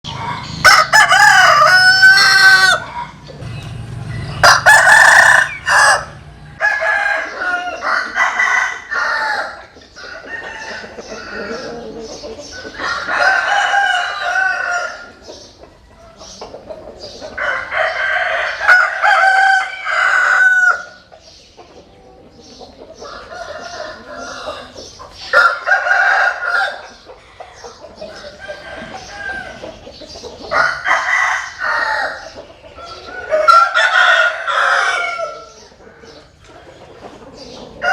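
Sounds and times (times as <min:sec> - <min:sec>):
chickens clucking: 0:00.0 - 0:37.9
roosters crowing: 0:00.1 - 0:21.1, 0:22.0 - 0:37.9.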